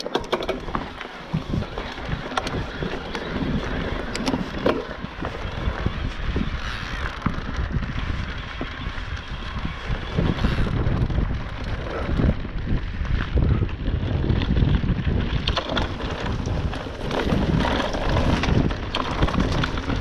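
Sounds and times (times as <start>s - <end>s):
bike rattling on stony trail: 0.0s - 20.0s
clicks and knocks from bike: 0.0s - 20.0s
wind buffeting microphone: 0.0s - 20.0s.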